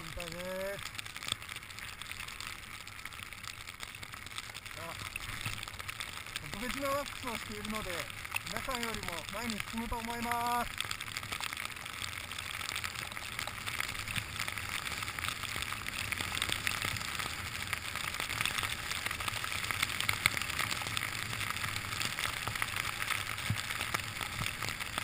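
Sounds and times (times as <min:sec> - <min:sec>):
small snow crackles: 0:00.0 - 0:25.0.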